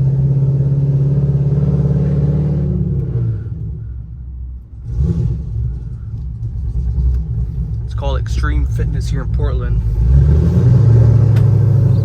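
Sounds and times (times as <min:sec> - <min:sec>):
car engine driving: 0:00.0 - 0:12.0.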